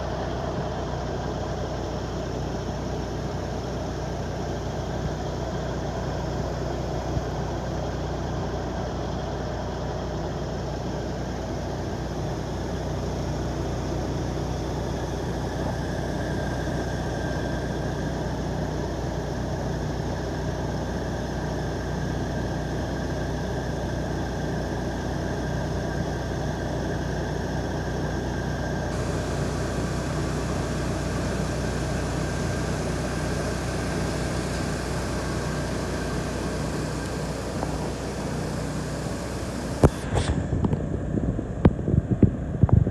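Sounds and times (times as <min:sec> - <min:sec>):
crane diesel engine running: 0:00.0 - 0:42.5.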